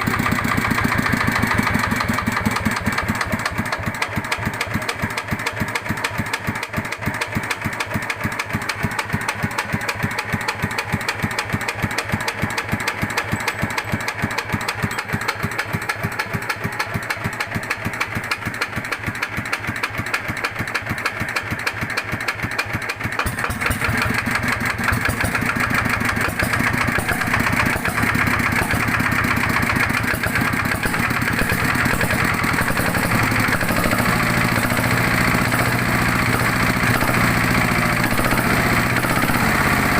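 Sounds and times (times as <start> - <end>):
diesel engine idling with knocking: 0.0 - 39.9.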